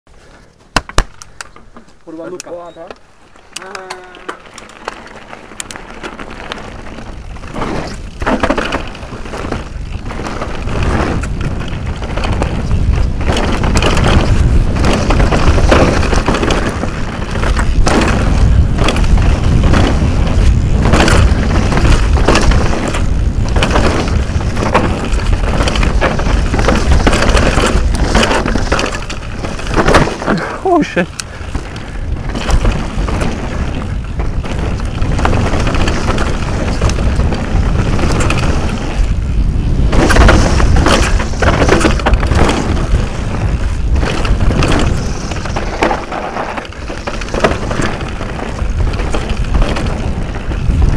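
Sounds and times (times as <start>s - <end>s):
tyres on loose ground: 0.1s - 50.9s
bike rattling and knocking: 0.2s - 50.9s
wind rushing over microphone: 4.0s - 50.9s.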